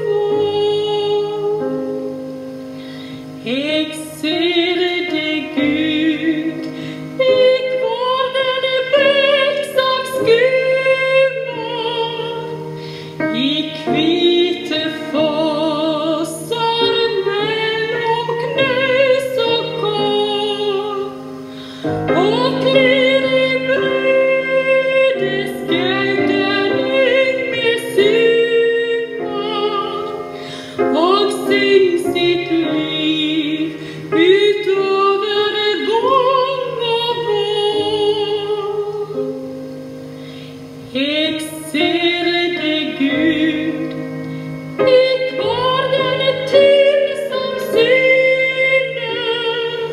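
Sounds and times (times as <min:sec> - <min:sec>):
piano accompaniment: 0:00.0 - 0:49.9
woman singing with vibrato: 0:00.0 - 0:49.9.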